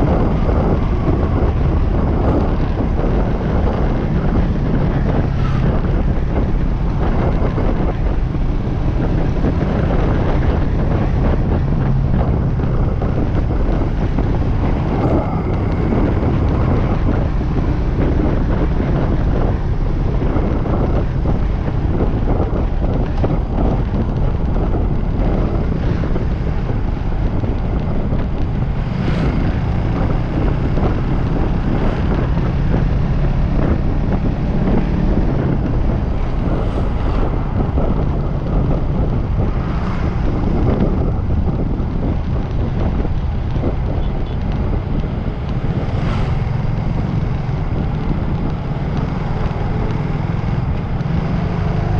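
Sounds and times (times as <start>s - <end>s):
passing traffic: 0.0s - 51.9s
wind buffeting microphone: 0.0s - 51.9s.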